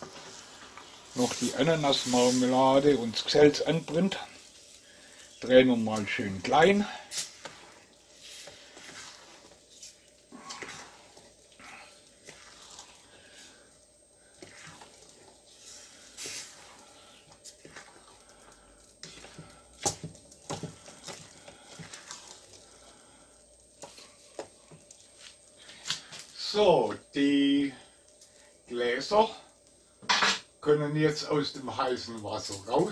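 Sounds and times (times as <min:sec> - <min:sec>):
wooden spoon stirring jam in pot: 0:00.0 - 0:30.0.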